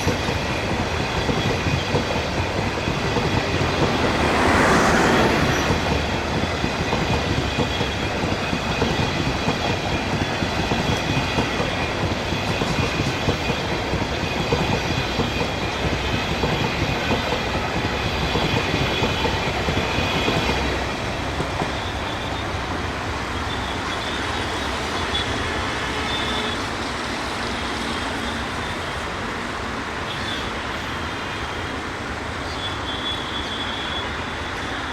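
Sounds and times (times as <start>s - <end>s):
train wheels clattering: 0.0s - 31.6s
high wheel squeal: 0.0s - 34.9s.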